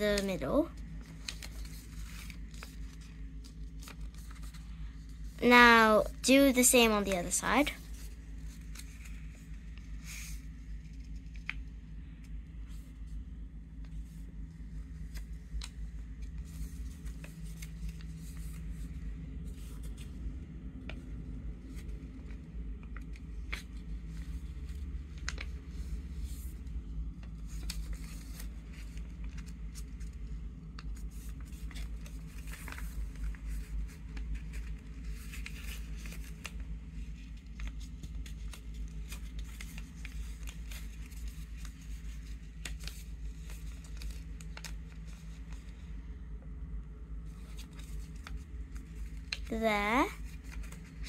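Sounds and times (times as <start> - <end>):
paper being folded and creased: 0.0 - 46.1, 47.2 - 51.0
steady low hum: 0.0 - 51.0.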